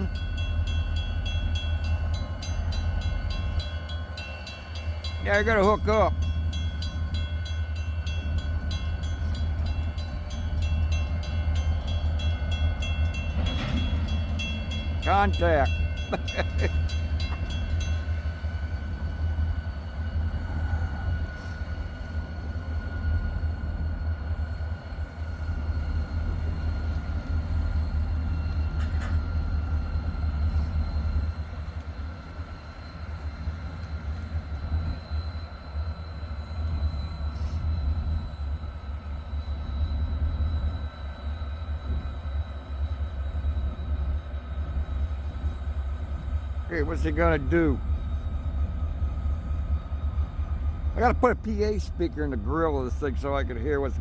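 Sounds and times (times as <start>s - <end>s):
diesel locomotive rumbling: 0.0s - 54.0s.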